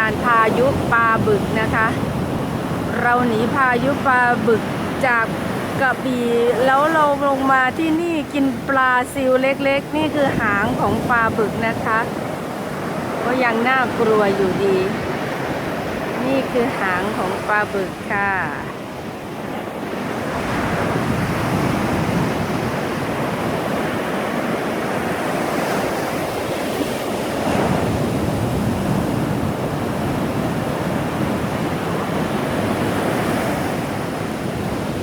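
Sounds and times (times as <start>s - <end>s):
heavy waves breaking ashore: 0.0s - 35.0s
wind on microphone: 0.0s - 35.0s.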